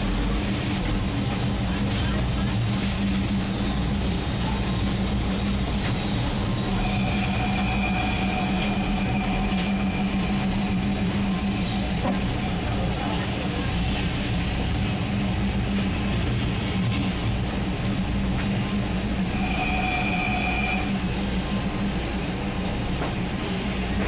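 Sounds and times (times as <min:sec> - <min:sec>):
low engine drone: 0:00.0 - 0:24.0
train running on track: 0:00.0 - 0:24.0.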